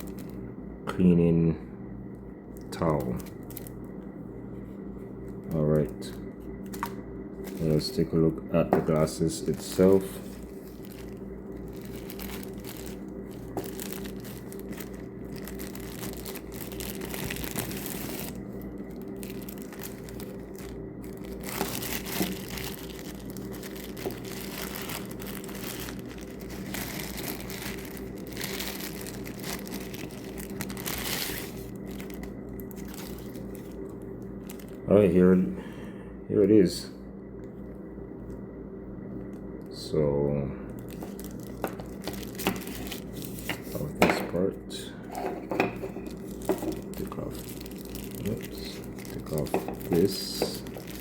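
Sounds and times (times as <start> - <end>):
packaging crinkling and rustling: 0.0 - 0.4, 2.5 - 4.0, 4.6 - 8.1, 8.8 - 35.1, 40.7 - 44.3, 45.1 - 51.0
low electrical hum: 0.0 - 51.0.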